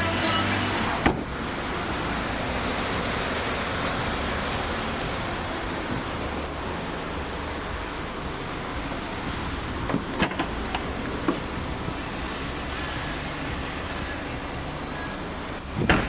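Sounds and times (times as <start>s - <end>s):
car interior rushing and rumble: 0.0s - 16.0s.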